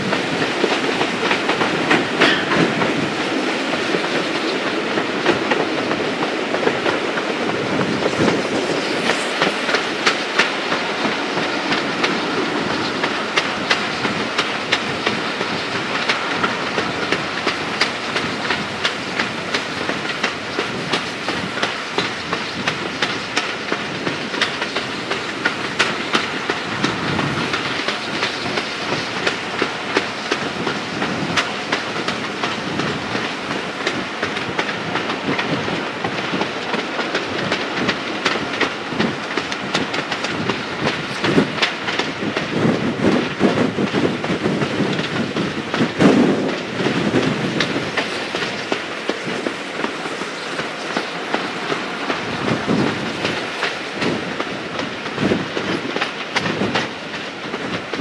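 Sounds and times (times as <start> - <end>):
train running noise: 0.0 - 58.0
train wheels clicking over rail joints: 0.0 - 58.0.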